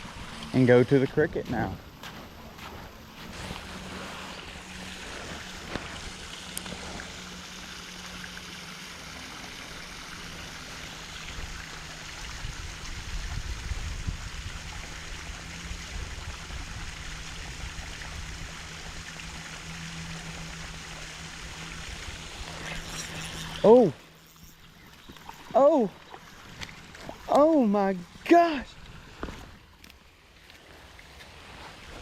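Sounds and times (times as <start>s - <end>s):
creek water running: 0.0s - 32.0s
faint steady hum: 0.0s - 32.0s.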